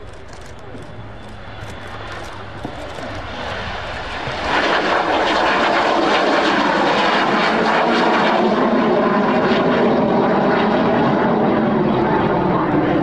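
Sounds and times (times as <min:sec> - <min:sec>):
jet engines flying past: 0:00.0 - 0:13.0.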